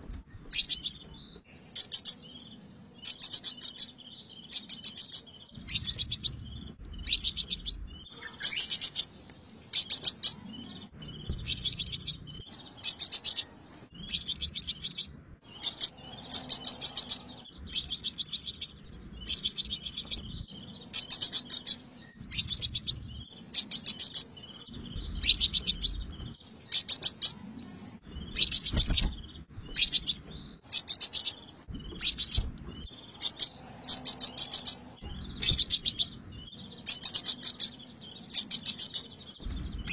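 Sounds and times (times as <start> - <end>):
bird calling with rapid chirps: 0.0 - 39.9.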